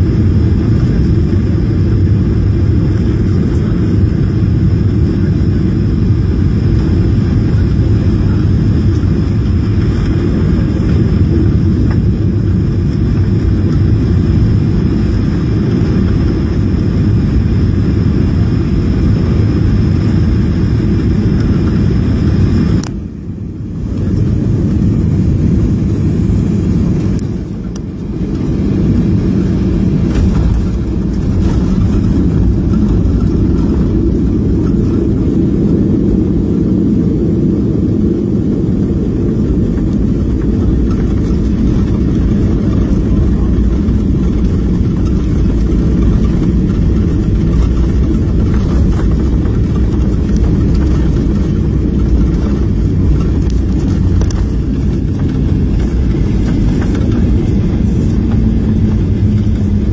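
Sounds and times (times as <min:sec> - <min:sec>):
deep rumble of jet engines: 0:00.0 - 0:59.9.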